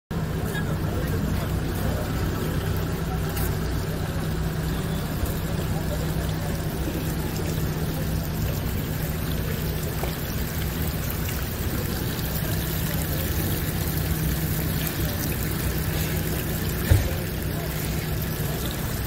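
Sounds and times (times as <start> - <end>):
low engine hum: 0.1 - 19.0
water running from a hose: 0.2 - 19.0.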